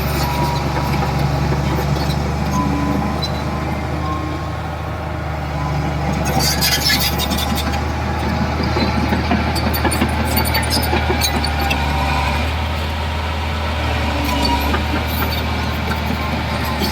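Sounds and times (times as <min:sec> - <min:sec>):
diesel engine humming: 0:00.0 - 0:16.9.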